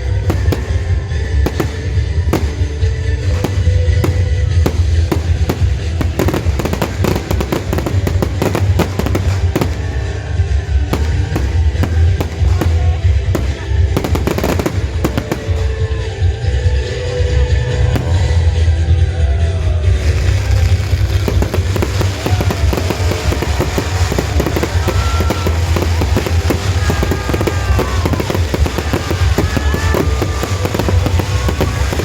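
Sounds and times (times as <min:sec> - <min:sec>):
fireworks bursting and crackling: 0:00.0 - 0:32.0
loud music with heavy bass: 0:00.0 - 0:32.0.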